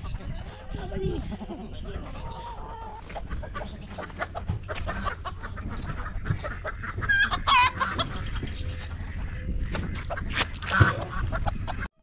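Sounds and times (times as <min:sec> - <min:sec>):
chicken squawk: 0:00.0 - 0:11.9
chickens clucking: 0:00.0 - 0:12.0.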